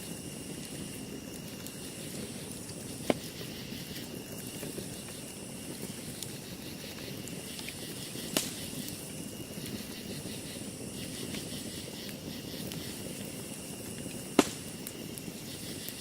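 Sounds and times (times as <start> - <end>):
campfire burning rush: 0.0 - 16.0
fire crackles: 0.0 - 16.0.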